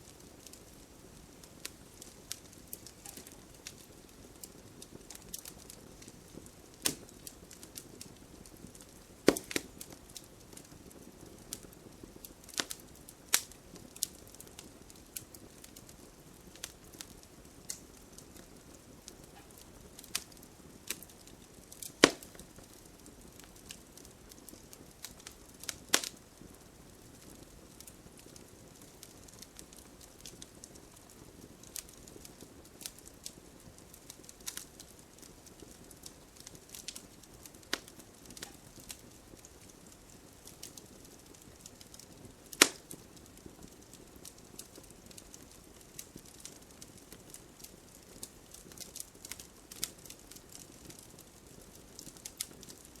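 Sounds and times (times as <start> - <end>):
campfire crackling: 0.0 - 53.0
faint steady hiss: 0.0 - 53.0.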